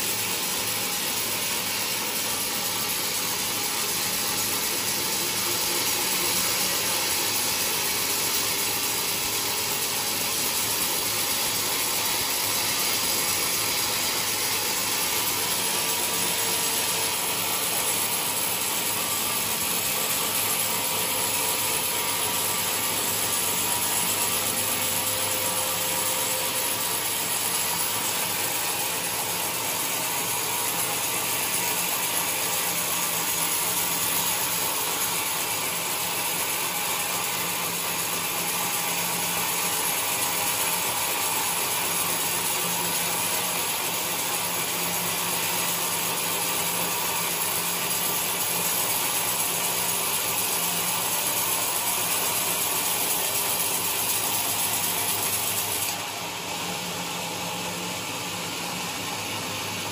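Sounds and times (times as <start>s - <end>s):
sawmill machine noise: 0.0s - 59.9s.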